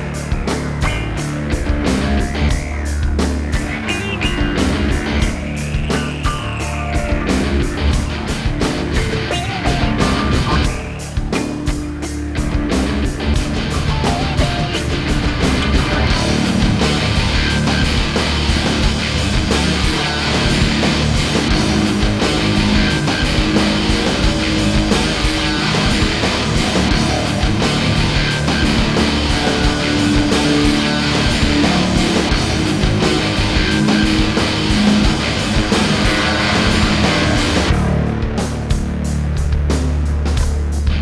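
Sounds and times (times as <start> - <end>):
heavy metal rock music: 0.0 - 41.0.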